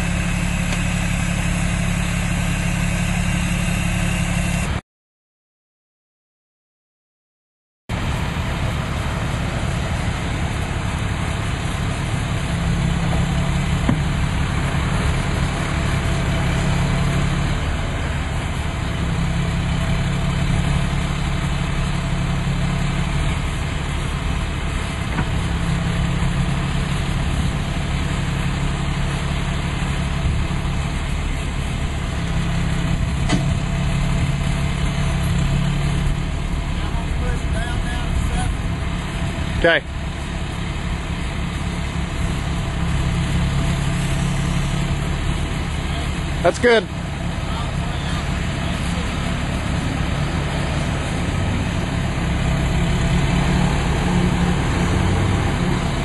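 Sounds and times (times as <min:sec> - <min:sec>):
deep low drone: 0:00.0 - 0:04.7, 0:07.9 - 0:56.0
truck engine running: 0:00.0 - 0:04.8, 0:07.9 - 0:56.0.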